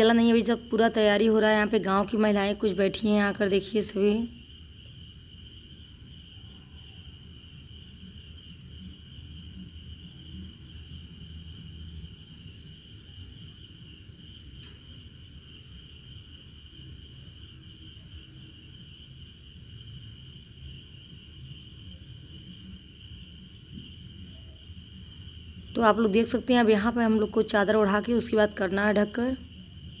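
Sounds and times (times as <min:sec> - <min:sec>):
crickets chirring: 0:00.0 - 0:30.0.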